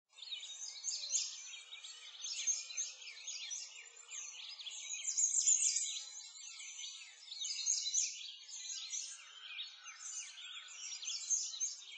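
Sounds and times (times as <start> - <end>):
many small birds chirping: 0.1 - 11.9.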